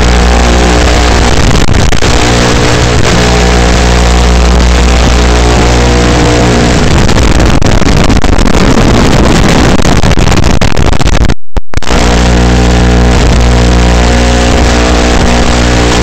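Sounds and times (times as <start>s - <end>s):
drone motors humming: 0.0s - 9.8s, 11.8s - 16.0s.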